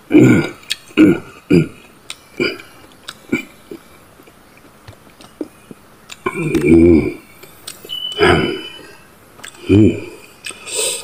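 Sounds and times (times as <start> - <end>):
man chewing: 0.0 - 11.0
wordless voiced mouth sounds: 0.0 - 11.0.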